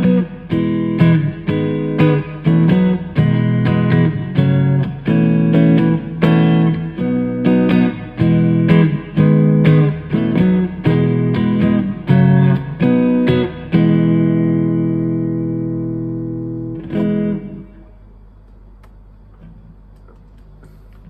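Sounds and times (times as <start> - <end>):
electric guitar strumming chords: 0.0 - 18.0.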